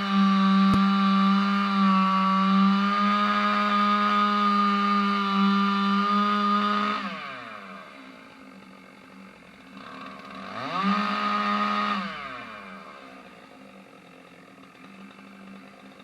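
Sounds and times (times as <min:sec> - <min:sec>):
chainsaw revving and idling: 0:00.0 - 0:16.0.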